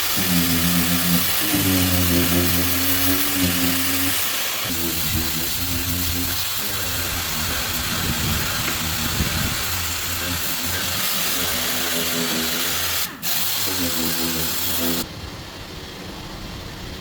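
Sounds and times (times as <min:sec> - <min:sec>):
power tool running: 0:00.0 - 0:15.1.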